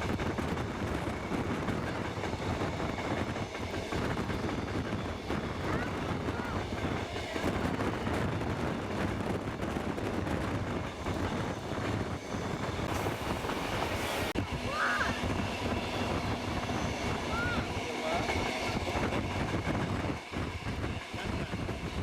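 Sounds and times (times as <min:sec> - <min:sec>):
train carriages rattling on rails: 0:00.0 - 0:22.0.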